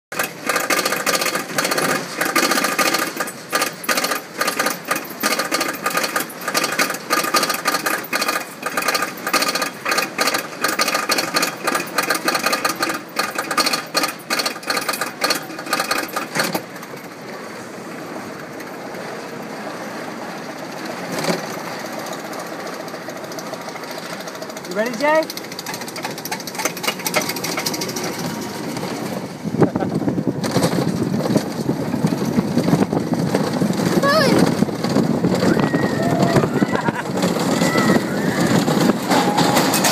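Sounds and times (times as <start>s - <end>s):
roller coaster mechanical clatter: 0.1s - 39.9s.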